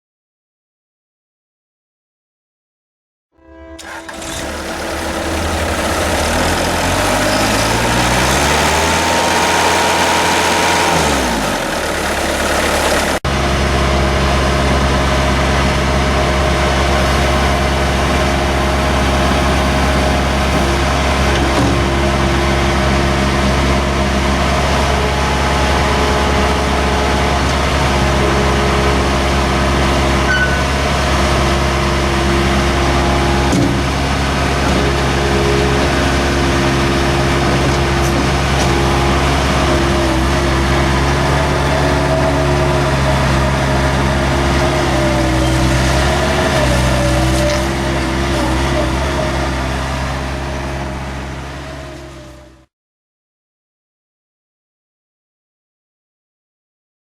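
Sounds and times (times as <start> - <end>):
diesel engine running and revving: 3.8 - 52.7.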